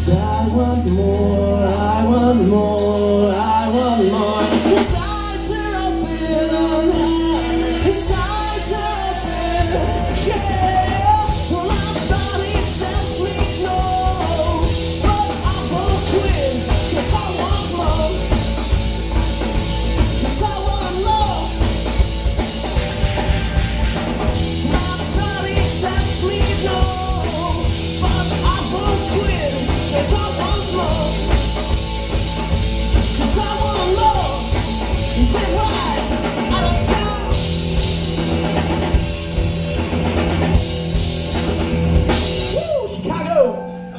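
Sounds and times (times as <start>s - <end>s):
person singing: 0.0s - 22.4s, 24.6s - 37.5s
drum kit: 0.0s - 43.8s
electric bass: 0.0s - 43.9s
electric guitar: 0.0s - 43.9s.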